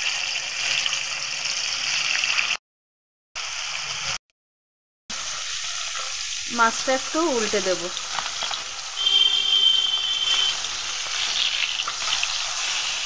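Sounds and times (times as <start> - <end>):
fish sizzling in hot oil: 0.0 - 2.6, 3.4 - 4.2, 5.1 - 13.0.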